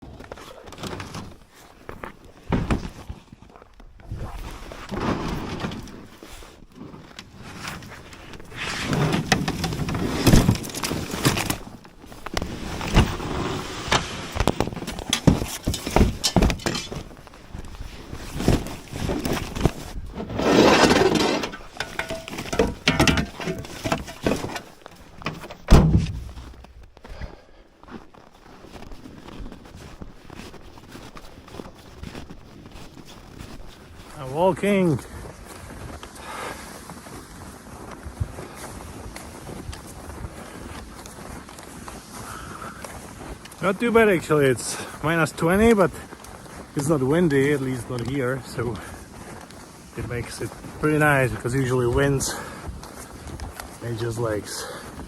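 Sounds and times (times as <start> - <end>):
ice and snow crunching: 0.0 - 55.0.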